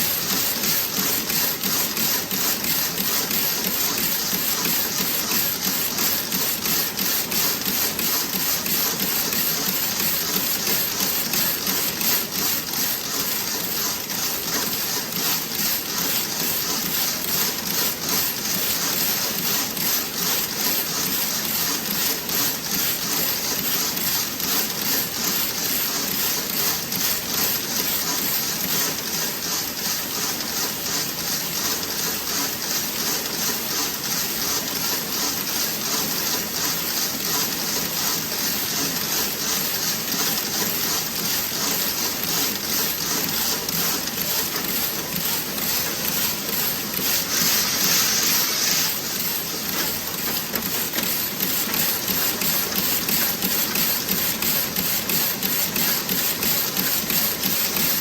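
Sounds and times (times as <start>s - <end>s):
knitting machine clicking: 0.0s - 29.0s, 32.4s - 58.0s.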